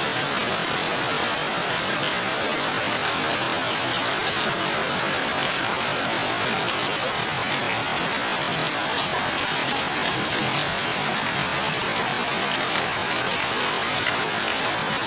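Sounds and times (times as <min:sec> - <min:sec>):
heavy rain on plants: 0:00.0 - 0:15.0.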